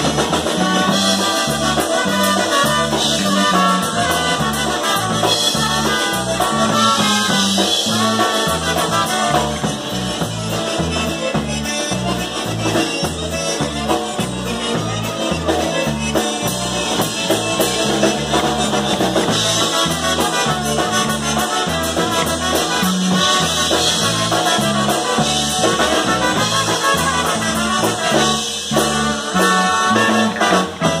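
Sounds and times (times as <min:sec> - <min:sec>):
accordion: 0:00.0 - 0:31.0
concertina: 0:00.0 - 0:31.0
electric bass oom-pah beat: 0:00.0 - 0:31.0
trumpets playing melody: 0:00.0 - 0:31.0.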